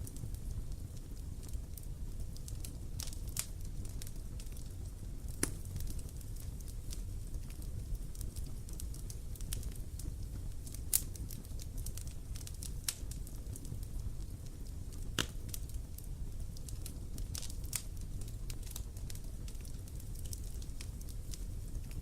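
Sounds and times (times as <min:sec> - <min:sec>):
fire pops and snaps: 0:00.0 - 0:22.0
low rumble of burning fire: 0:00.0 - 0:22.0
wood fire crackling: 0:00.0 - 0:22.0.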